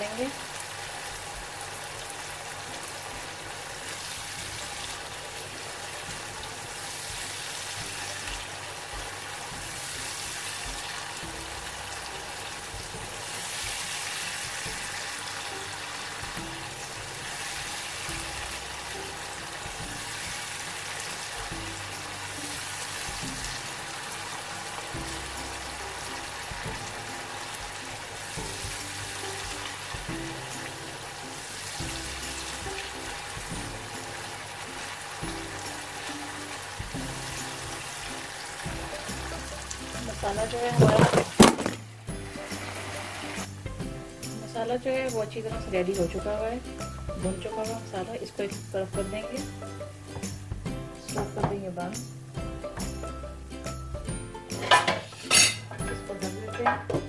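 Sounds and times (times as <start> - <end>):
masala sizzling in a pan: 0.0 - 56.9
soft background music: 0.0 - 57.0.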